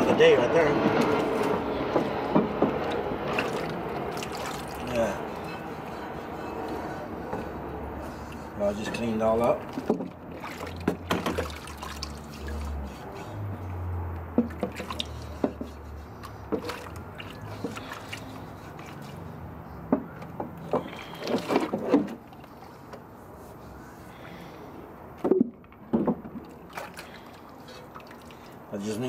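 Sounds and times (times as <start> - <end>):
water sloshing: 0.0 - 29.0
small splashes and knocks: 0.8 - 5.7, 6.6 - 23.2, 25.1 - 28.7.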